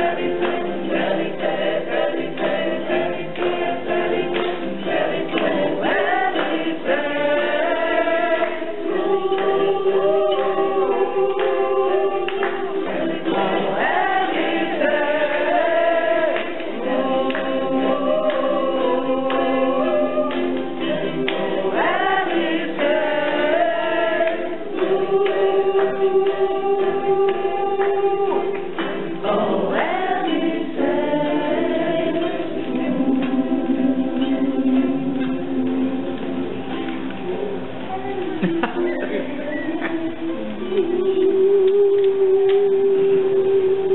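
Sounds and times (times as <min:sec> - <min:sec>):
group of voices singing: 0:00.0 - 0:37.0, 0:38.2 - 0:43.9
guitar: 0:00.0 - 0:43.9
ukuleles strumming: 0:00.0 - 0:43.9.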